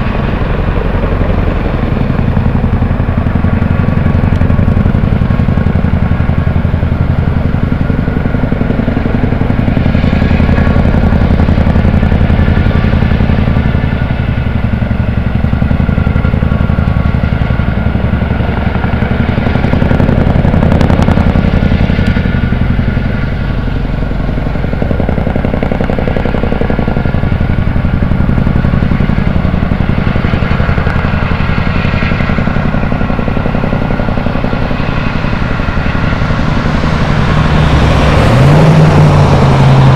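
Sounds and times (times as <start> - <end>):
engine rumbling: 0.0 - 39.9
steady tones: 0.0 - 39.9.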